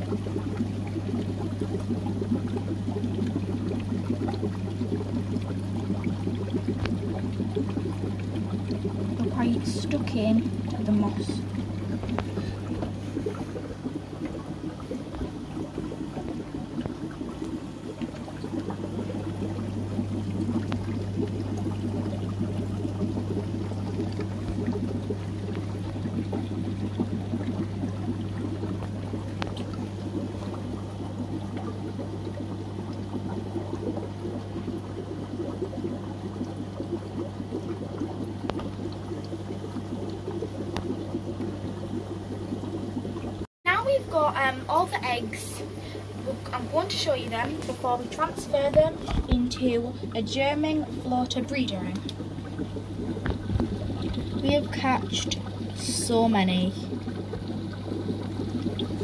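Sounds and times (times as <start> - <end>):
aquarium water trickling and bubbling: 0.0 - 59.0
low steady hum: 0.0 - 59.0.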